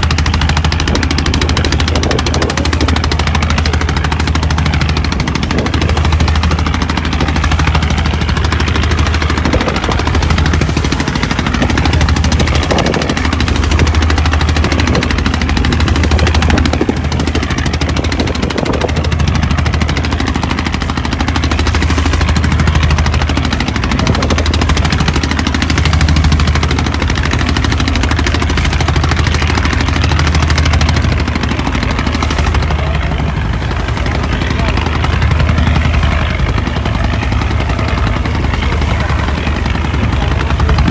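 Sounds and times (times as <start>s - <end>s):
boat engine chugging: 0.0s - 40.9s
rushing water: 0.0s - 40.9s
wind: 0.0s - 40.9s.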